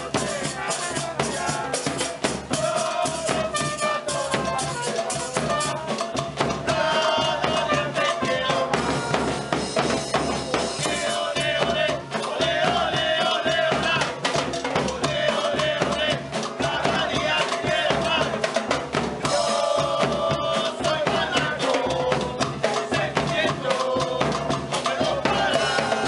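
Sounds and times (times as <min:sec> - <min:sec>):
drums beating fast rhythm: 0:00.0 - 0:26.0.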